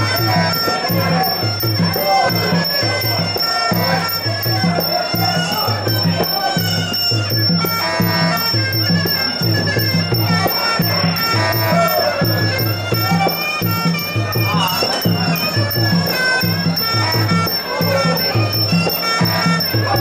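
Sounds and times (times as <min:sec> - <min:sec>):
cymbals: 0:00.0 - 0:20.0
drums beating: 0:00.0 - 0:20.0
wailing oboe melody: 0:00.0 - 0:20.0.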